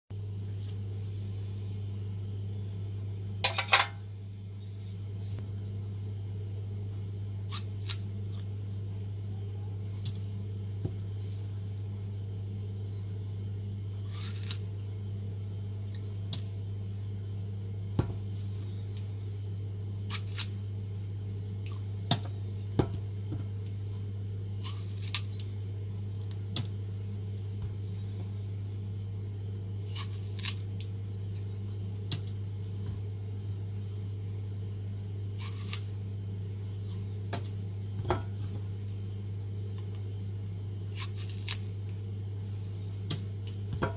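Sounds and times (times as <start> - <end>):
low hum: 0.2 - 43.9.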